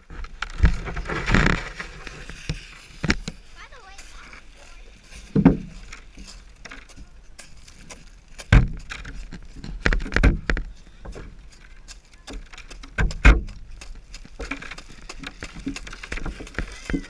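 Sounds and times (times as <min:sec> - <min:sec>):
plastic sled scraping over snow: 0:00.0 - 0:17.0
sled knocks and bumps: 0:00.0 - 0:17.0.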